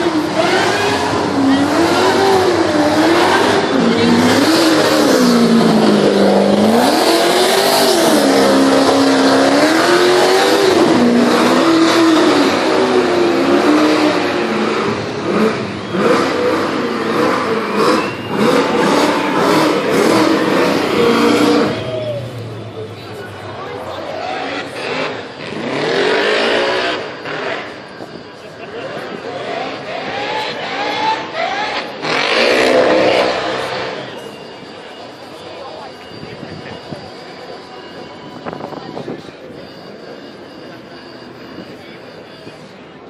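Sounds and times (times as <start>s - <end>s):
race car engines passing: 0.0s - 43.0s.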